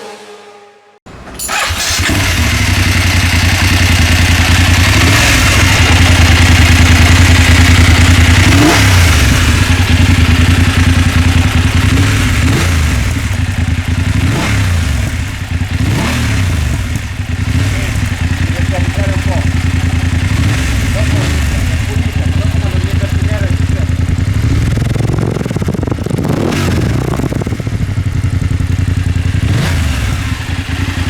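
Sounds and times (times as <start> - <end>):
motorcycle engine idling: 1.1 - 31.0.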